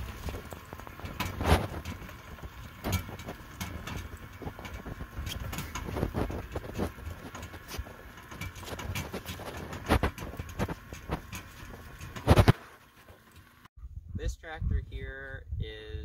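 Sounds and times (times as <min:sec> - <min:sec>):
electric tractor rumbling: 0:00.0 - 0:13.7
knocks and rattles: 0:00.0 - 0:13.7.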